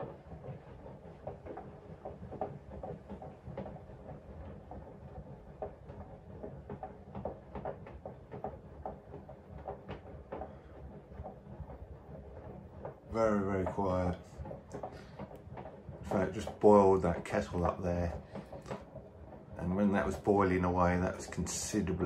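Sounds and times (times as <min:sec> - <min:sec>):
washing machine drum rumble: 0:00.0 - 0:22.0.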